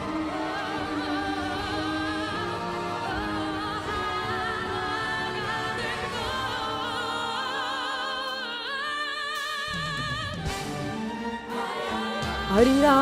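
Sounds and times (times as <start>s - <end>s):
musical accompaniment: 0.0s - 13.0s.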